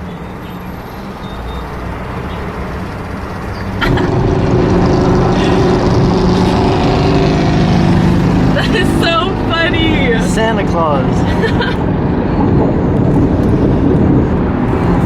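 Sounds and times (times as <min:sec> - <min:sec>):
vehicle engine running: 0:00.4 - 0:15.0.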